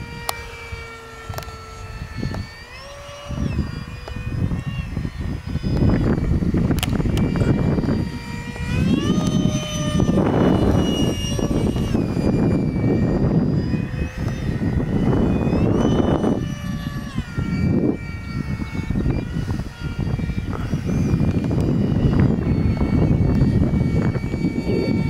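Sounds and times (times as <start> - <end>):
electric ducted fan whining: 0.0 - 25.0
wind rumbling over microphone: 0.0 - 25.0.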